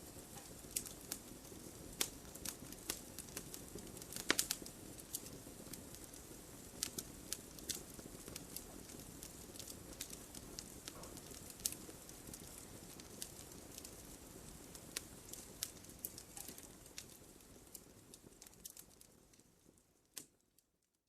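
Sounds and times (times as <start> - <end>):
fire hissing: 0.0 - 20.3
wood fire crackling and popping: 0.0 - 20.9.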